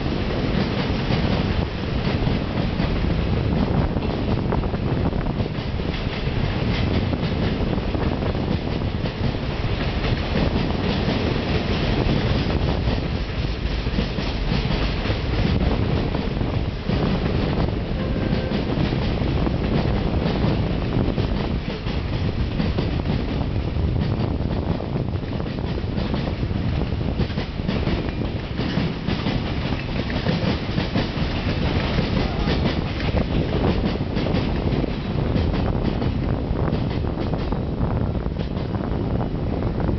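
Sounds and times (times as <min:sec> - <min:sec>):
wheels clicking over rail joints: 0:00.0 - 0:37.6
train wheels rumbling on rails: 0:00.0 - 0:39.9.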